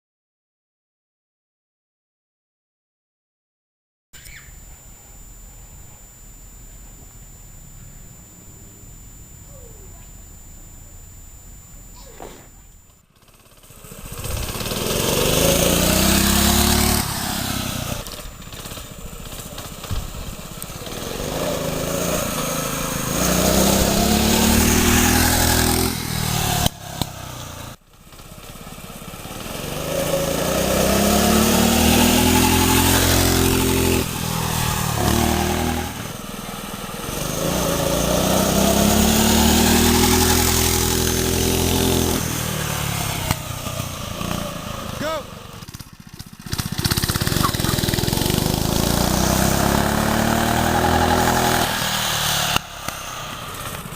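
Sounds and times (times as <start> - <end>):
minibike engine revving: 9.4 - 53.9.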